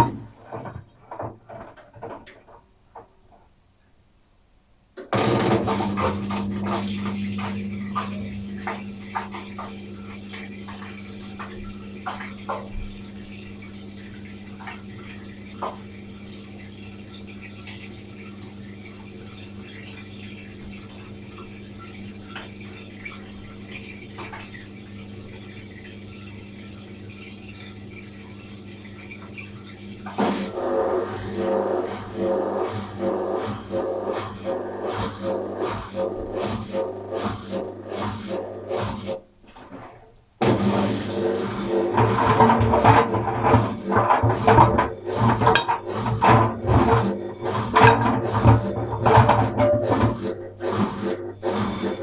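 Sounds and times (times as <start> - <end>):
washing machine running water: 0.0 - 4.1, 4.8 - 52.0.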